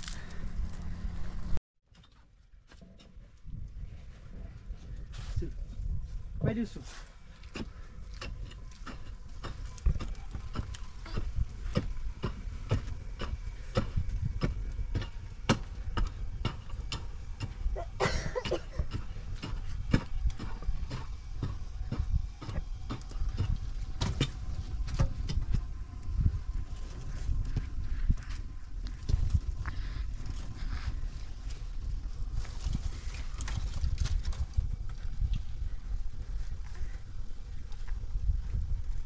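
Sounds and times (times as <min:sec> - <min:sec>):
steady low rumble: 0:03.2 - 0:39.0.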